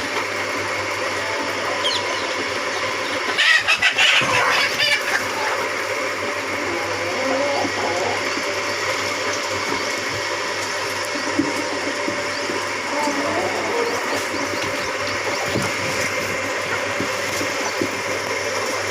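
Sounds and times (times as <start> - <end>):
chickens clucking: 0.0 - 18.9
steady background hum: 0.0 - 18.9.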